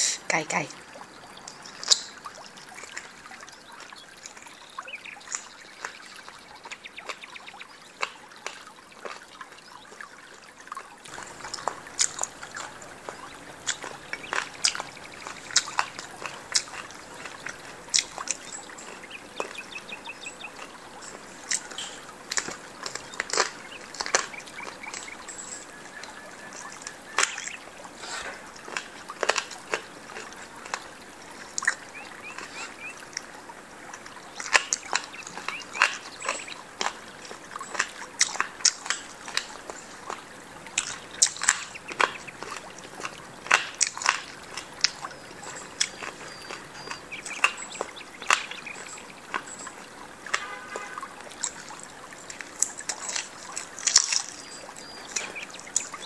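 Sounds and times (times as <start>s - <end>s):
wet chewing and smacking: 0.8s - 56.0s.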